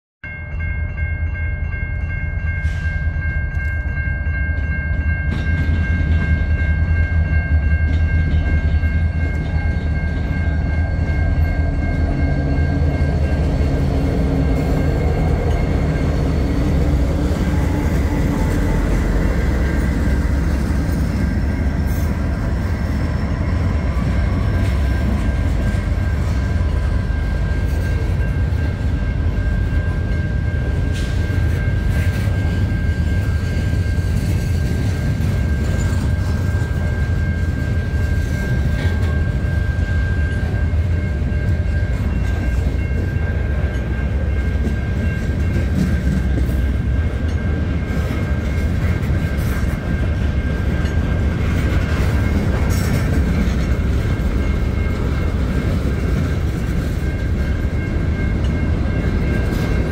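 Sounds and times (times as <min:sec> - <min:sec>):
freight train rumbling: 0:00.2 - 0:59.9
high-pitched ringing tone: 0:00.2 - 0:59.9.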